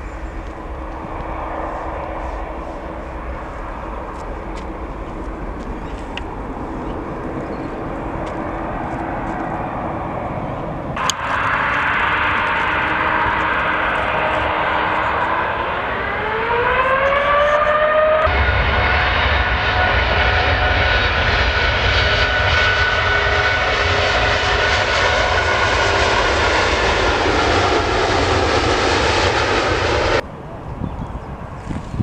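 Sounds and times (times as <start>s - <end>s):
jet engines whining and roaring: 0.0s - 32.0s.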